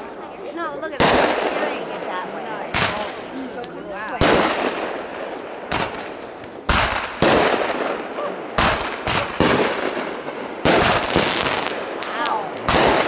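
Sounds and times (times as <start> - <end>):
fireworks bangs with rolling echo: 0.8 - 3.4, 4.1 - 13.0.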